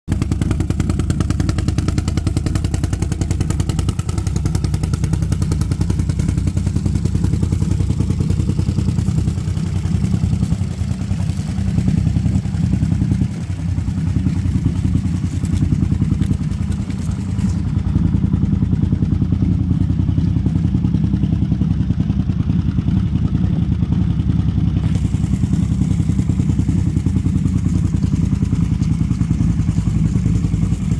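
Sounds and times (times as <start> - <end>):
atv engine idling: 0.1 - 30.9.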